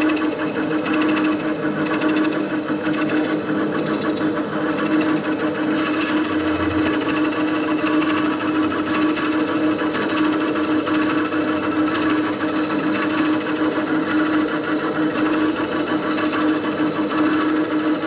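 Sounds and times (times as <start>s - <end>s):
lathe cutting workpiece: 0.0s - 18.0s
lathe motor hum: 0.0s - 18.0s.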